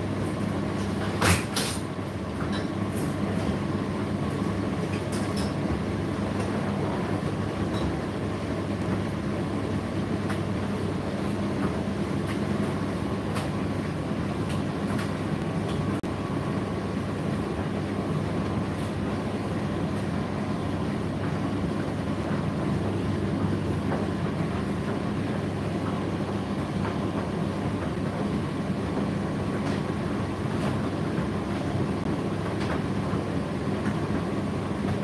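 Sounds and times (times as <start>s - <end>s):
tumble dryer humming: 1.8s - 35.0s.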